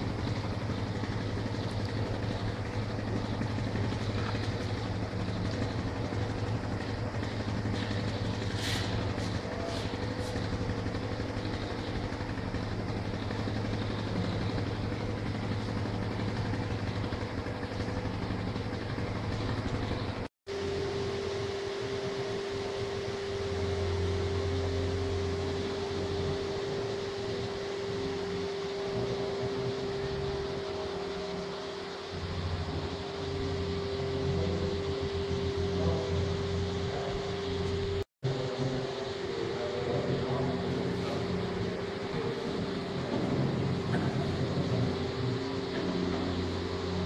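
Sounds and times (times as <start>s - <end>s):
electric fans humming: 0.0s - 47.0s
hum with high tone: 0.0s - 47.0s.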